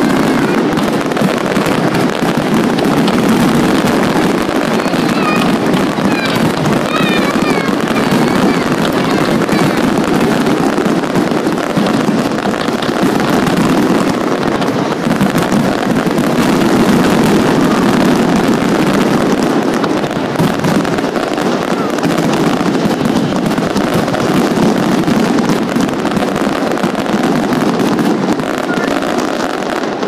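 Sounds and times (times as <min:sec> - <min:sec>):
fireworks rumbling and crackling: 0:00.0 - 0:30.0.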